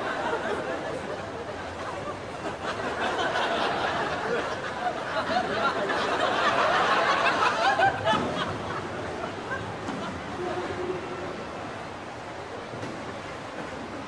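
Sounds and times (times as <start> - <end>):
audience laughing: 0.0 - 11.3.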